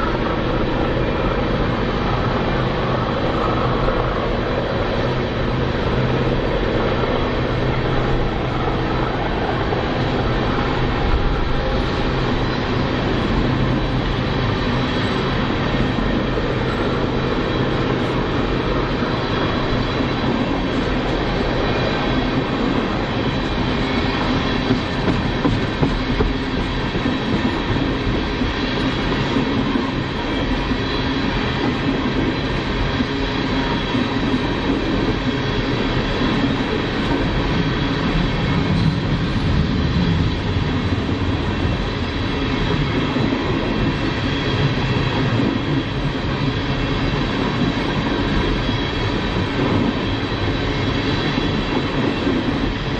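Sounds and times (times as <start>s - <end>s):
freight train cars rolling past: 0.0s - 52.9s.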